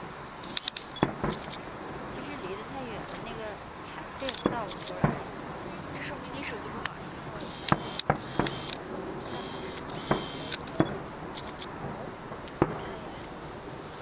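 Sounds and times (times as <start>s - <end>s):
high crackling hiss: 0.0s - 14.0s
distant firework bangs: 0.8s - 14.0s.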